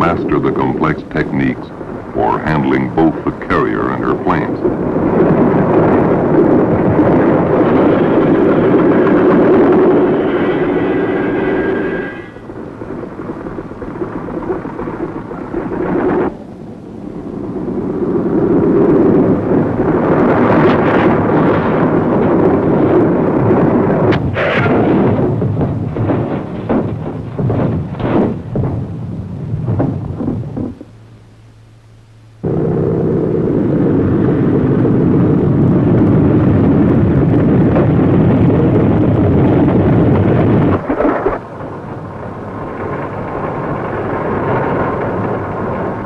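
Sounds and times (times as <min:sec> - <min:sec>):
propeller plane engines rumbling: 0:00.0 - 0:46.0.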